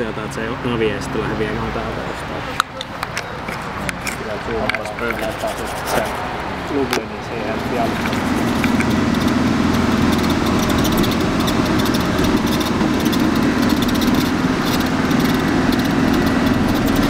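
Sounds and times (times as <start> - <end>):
engine and road noise inside vehicle: 0.0 - 17.0.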